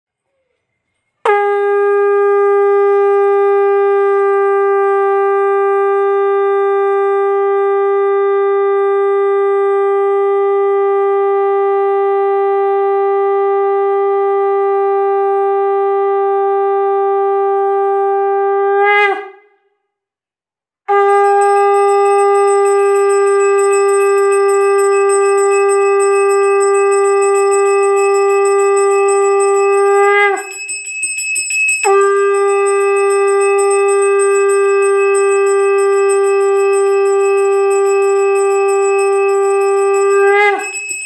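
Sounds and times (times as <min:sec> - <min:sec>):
conch shell blasts: 0:01.2 - 0:19.4, 0:20.9 - 0:41.0.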